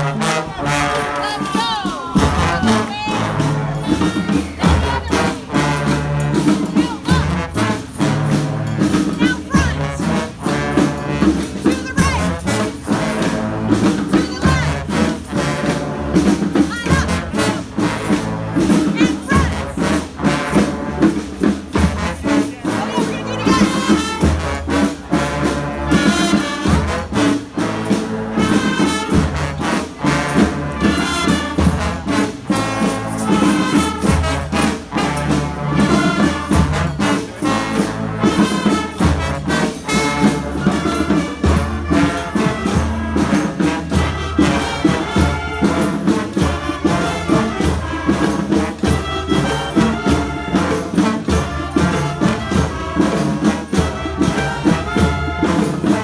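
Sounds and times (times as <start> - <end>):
drums and percussion: 0.0 - 56.0
trumpets and trombones: 0.0 - 56.0.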